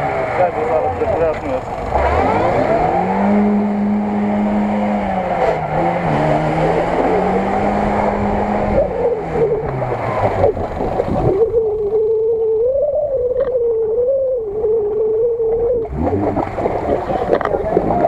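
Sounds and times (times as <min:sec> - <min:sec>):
mud churning under wheels: 0:00.0 - 0:12.4, 0:14.7 - 0:18.0
car engine revving under load: 0:00.0 - 0:18.0.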